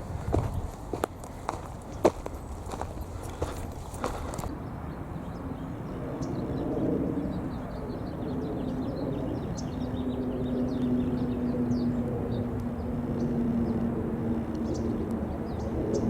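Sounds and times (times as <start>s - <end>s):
engine-like hum: 0.0s - 16.0s.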